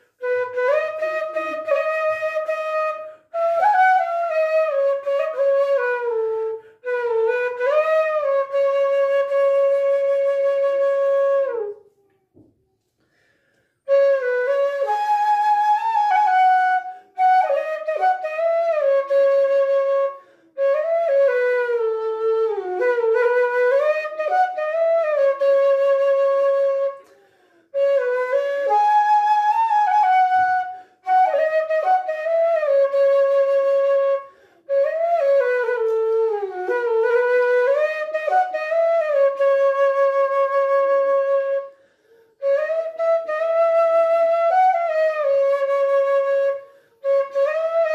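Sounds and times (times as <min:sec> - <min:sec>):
bamboo flute melody: 0:00.0 - 0:12.9, 0:13.8 - 0:47.9.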